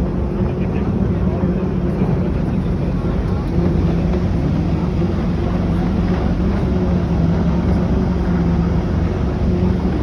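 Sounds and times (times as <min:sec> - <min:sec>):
ferry engine drone: 0:00.0 - 0:10.0.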